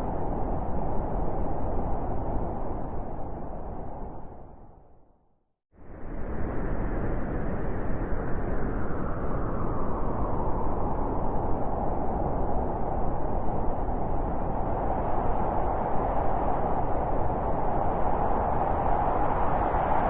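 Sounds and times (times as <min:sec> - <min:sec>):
blizzard wind howling: 0:00.0 - 0:05.2, 0:05.8 - 0:20.0.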